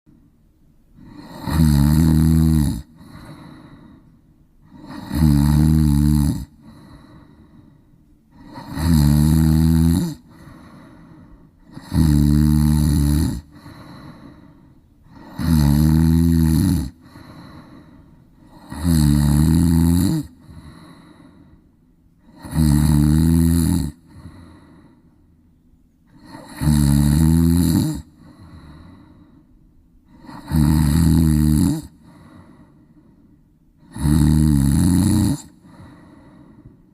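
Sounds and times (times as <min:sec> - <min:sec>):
cat snoring: 0:01.0 - 0:04.0, 0:04.6 - 0:07.6, 0:08.3 - 0:14.5, 0:15.1 - 0:21.4, 0:22.2 - 0:24.9, 0:26.1 - 0:29.4, 0:30.1 - 0:32.7, 0:33.8 - 0:36.6.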